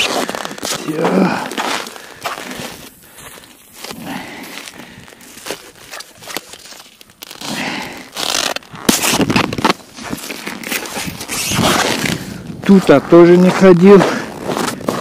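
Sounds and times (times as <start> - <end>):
snow and ice crunching: 0.0 - 15.0.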